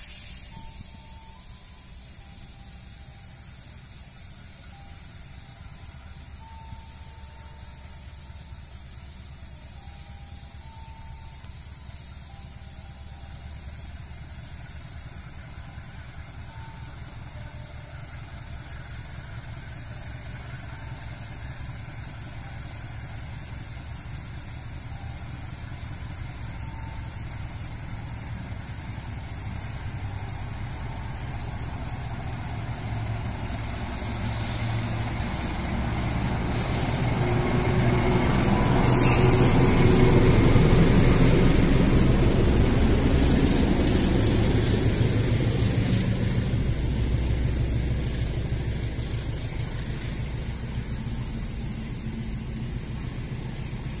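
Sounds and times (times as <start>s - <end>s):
locomotive engine hum: 0.0s - 54.0s
train wheels rolling over rails: 0.0s - 54.0s.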